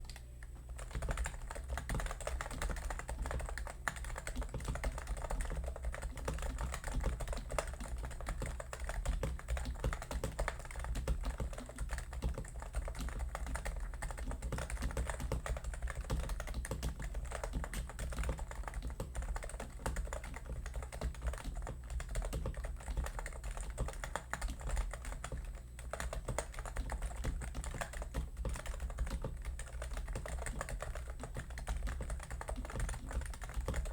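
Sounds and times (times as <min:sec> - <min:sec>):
keyboard typing: 0:00.0 - 0:33.9.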